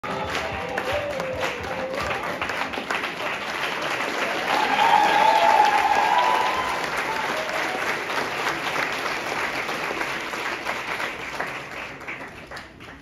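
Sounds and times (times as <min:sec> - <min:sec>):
audience clapping: 0:00.0 - 0:13.0.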